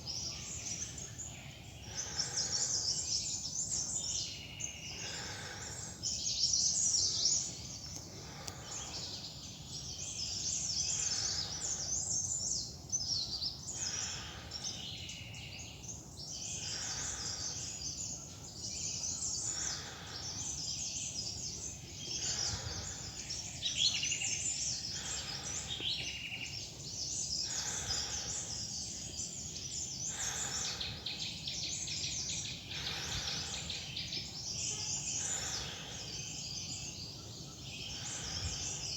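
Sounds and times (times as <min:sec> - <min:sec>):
forest birds chirping: 0:00.0 - 0:38.9.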